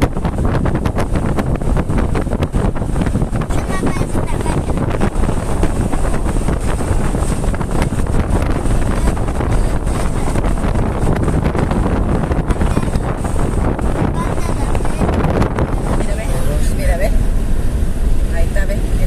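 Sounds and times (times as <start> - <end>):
vehicle rumble on road: 0.0 - 19.0
wind buffeting microphone: 0.0 - 19.0.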